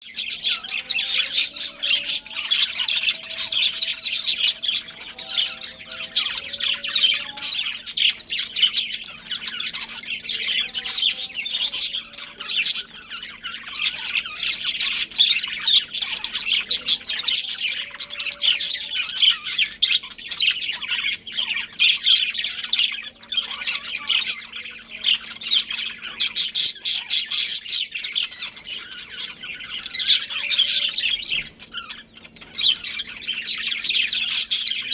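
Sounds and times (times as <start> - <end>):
budgerigars chirping and chattering: 0.0 - 34.9.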